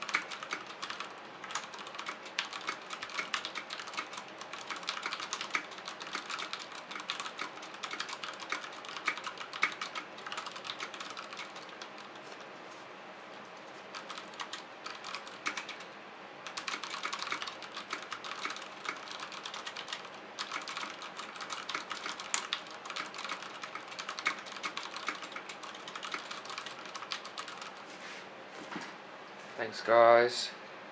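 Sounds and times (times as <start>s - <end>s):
mechanical keyboard typing: 0.0s - 12.2s, 13.9s - 15.8s, 16.4s - 27.8s.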